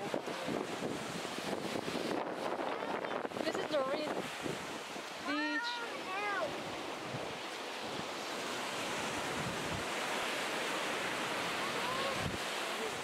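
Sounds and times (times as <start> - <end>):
ocean surf rushing: 0.0 - 13.0
wind on microphone: 0.0 - 13.0.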